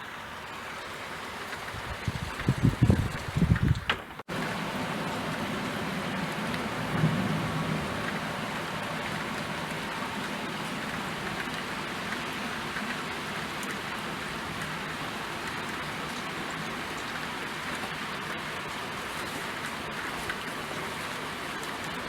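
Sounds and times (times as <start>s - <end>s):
steady rain: 0.0s - 22.0s
raindrops ticking on a surface: 0.5s - 22.0s.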